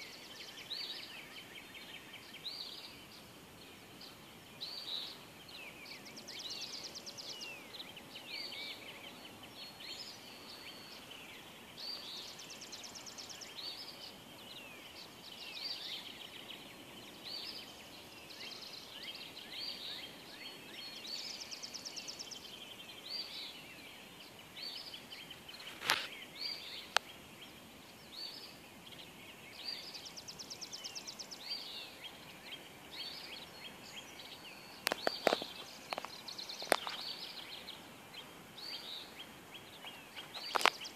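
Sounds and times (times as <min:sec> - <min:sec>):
songbirds whistling: 0:04.0 - 0:40.9.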